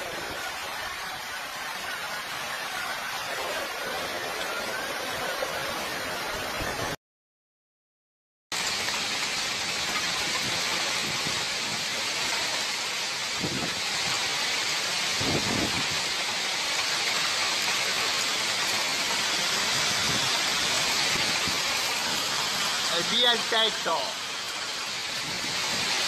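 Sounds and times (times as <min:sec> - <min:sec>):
heavy rain hiss: 0:00.0 - 0:07.0, 0:08.6 - 0:26.0.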